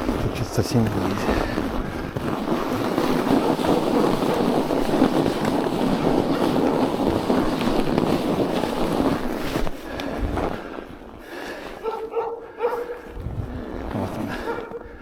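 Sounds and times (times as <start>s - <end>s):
bicycle tyres rolling through snow: 0.0s - 15.0s.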